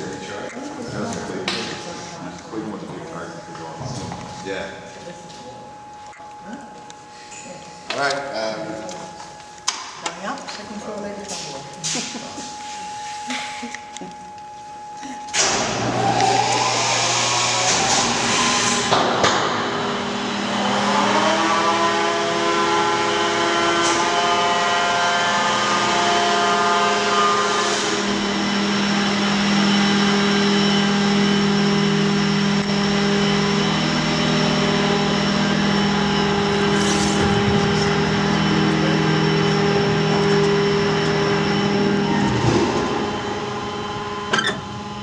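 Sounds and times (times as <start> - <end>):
elevator drive hum and whine: 0.0 - 45.0.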